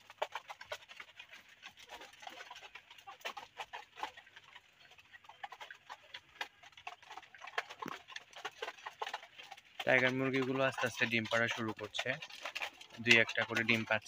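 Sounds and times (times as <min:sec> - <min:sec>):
birds pecking plastic feeder cups: 0:00.0 - 0:14.0
chickens clucking: 0:00.0 - 0:14.0.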